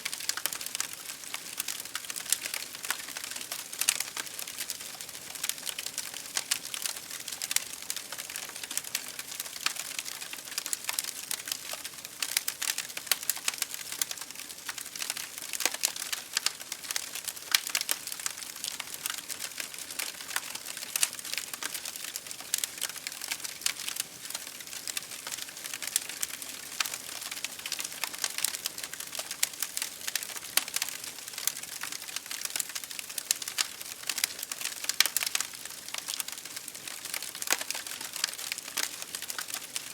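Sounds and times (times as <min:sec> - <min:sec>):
rain on window: 0:00.0 - 0:39.9
wood fire crackling: 0:00.0 - 0:39.9.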